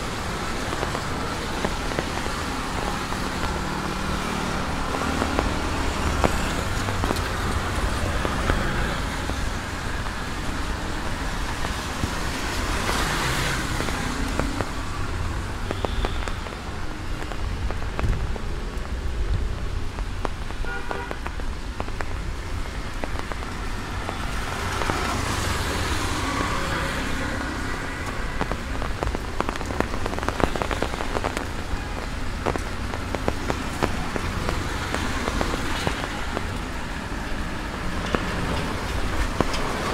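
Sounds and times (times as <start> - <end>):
motorcycles passing: 0.0 - 20.3, 21.6 - 39.9
steady rain: 0.0 - 39.9
tyres hissing on wet road: 0.0 - 39.9.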